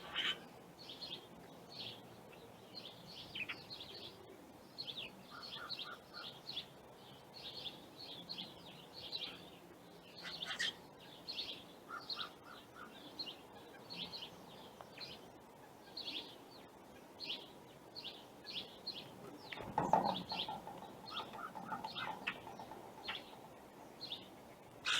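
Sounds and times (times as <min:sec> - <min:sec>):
small songbirds chirping: 0:00.0 - 0:24.9.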